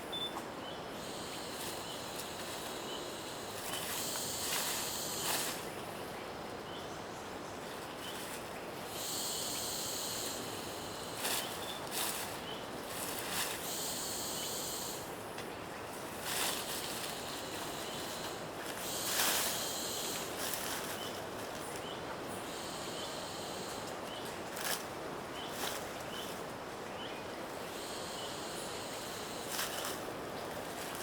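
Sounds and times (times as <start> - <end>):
steady hiss: 0.0 - 31.0
faint chirps: 0.1 - 5.9, 7.7 - 24.3, 27.0 - 30.0.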